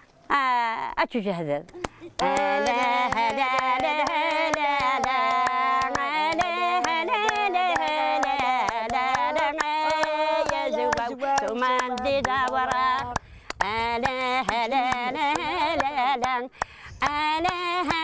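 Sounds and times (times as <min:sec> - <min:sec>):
hands clapping in rhythm: 0:01.7 - 0:18.0
women singing folk song: 0:02.1 - 0:18.0.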